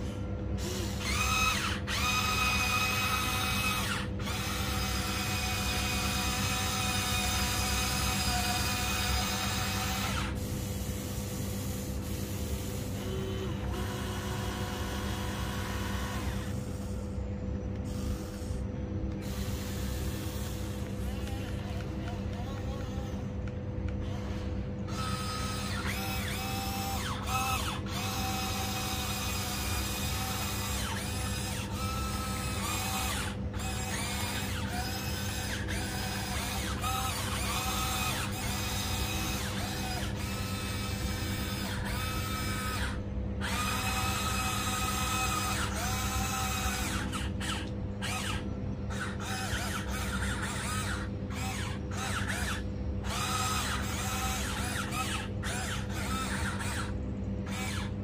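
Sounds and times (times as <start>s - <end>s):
electric motors whining: 0.0s - 58.0s
steady low hum: 0.0s - 58.0s.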